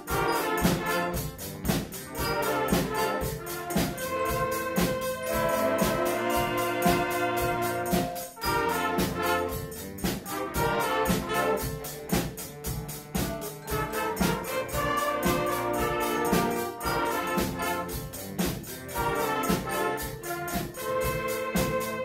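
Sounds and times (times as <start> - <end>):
brass playing held chords: 0.0 - 22.0
steady percussion beat: 0.0 - 22.0.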